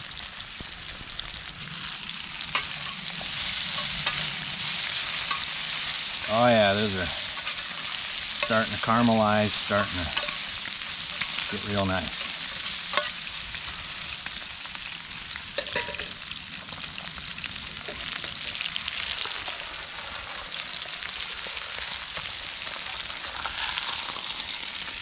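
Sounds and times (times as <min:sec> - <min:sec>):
food sizzling in frying pans: 0:00.0 - 0:25.0.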